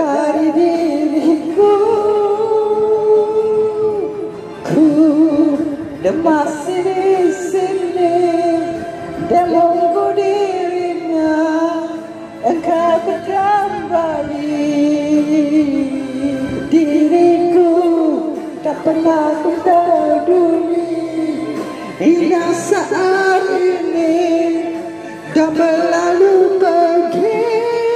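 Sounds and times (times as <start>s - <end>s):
music with singing: 0.0s - 27.9s.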